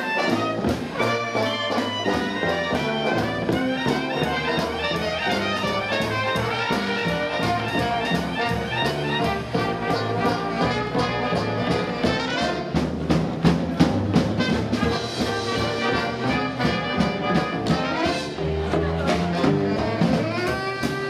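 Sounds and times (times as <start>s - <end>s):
jazz band playing: 0.0s - 21.0s.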